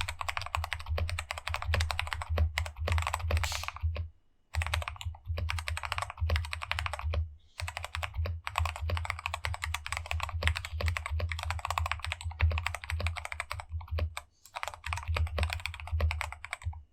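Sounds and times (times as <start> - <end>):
fast typing on mechanical keyboard: 0.0 - 16.8.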